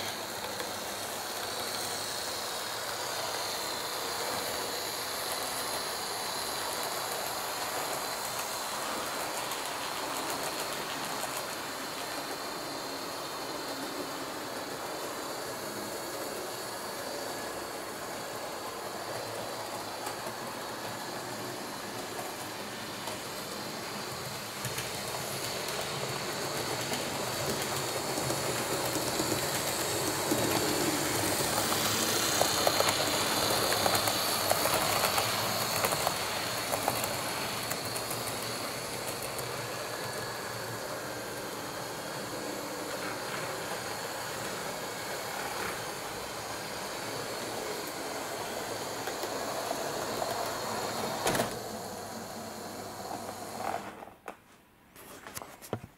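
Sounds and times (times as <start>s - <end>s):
model train motors whirring: 0.0s - 54.4s.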